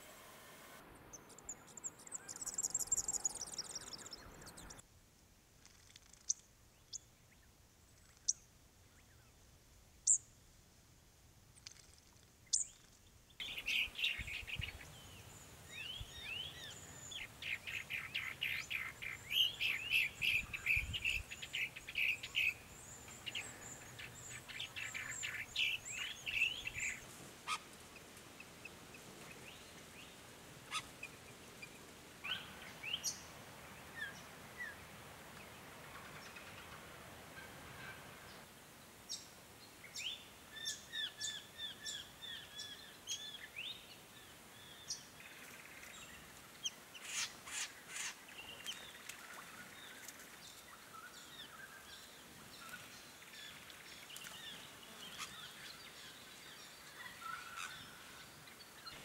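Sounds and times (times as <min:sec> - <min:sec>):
songbirds chirping: 0:00.8 - 0:04.8, 0:05.8 - 0:09.4, 0:11.5 - 0:59.0.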